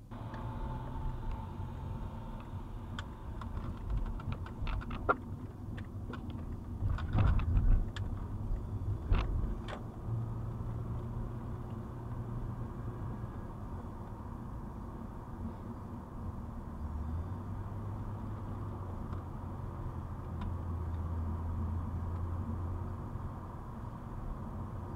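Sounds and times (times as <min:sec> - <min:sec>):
road and engine hum: 0:00.0 - 0:24.9.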